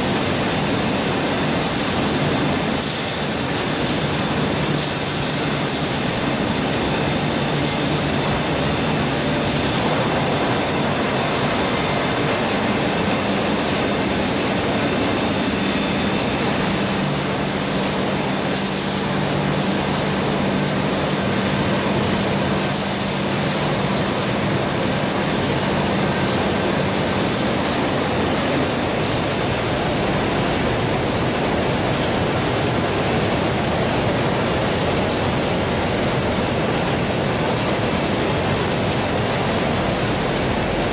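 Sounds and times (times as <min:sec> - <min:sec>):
poultry processing machinery: 0:00.0 - 0:40.9.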